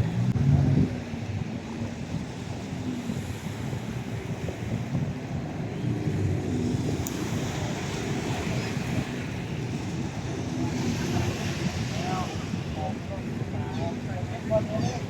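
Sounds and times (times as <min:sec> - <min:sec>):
sea waves: 0:00.0 - 0:15.0
wind buffeting microphone: 0:00.0 - 0:15.0.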